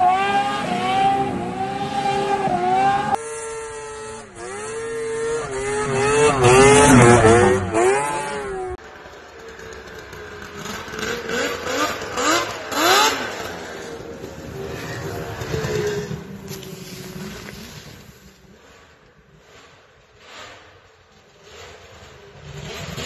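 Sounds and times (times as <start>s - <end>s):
faint snowmobile engine: 0.0s - 23.0s
snowmobile engines revving: 0.0s - 23.0s.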